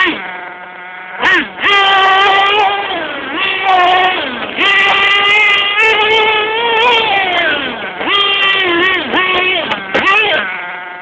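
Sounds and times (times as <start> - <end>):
rc truck motor revving: 0.0 - 11.0.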